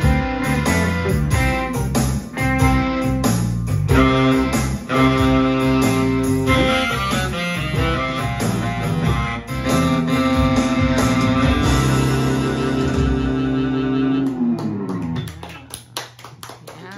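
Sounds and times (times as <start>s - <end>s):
electronic keyboard: 0.0s - 15.4s
electric guitar: 0.0s - 15.7s.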